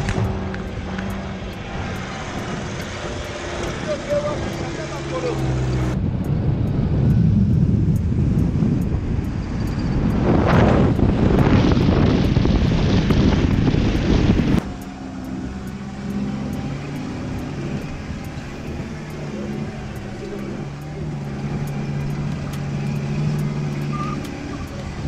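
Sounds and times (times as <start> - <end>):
vehicle engine drone: 0.0 - 25.0
wind rushing over microphone: 0.0 - 25.0.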